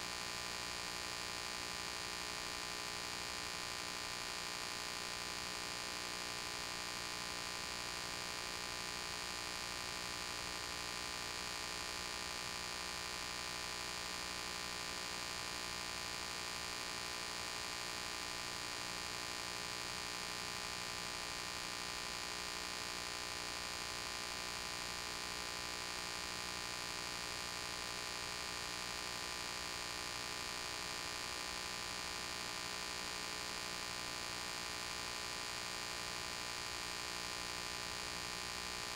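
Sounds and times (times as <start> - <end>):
mains hum: 0.0 - 38.9.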